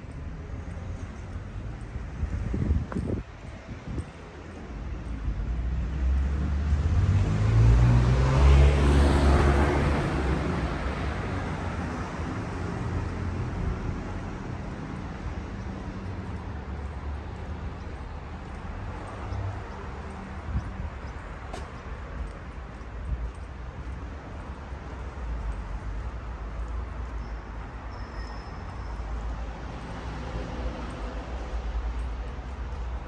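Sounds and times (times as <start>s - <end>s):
low street noise: 0.0s - 33.0s.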